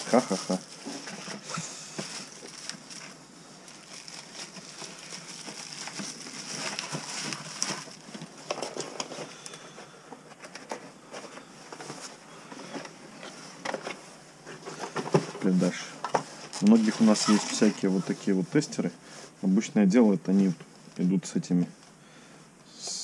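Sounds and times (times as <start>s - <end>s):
cardboard and bubble wrap crinkling: 0.0s - 18.7s.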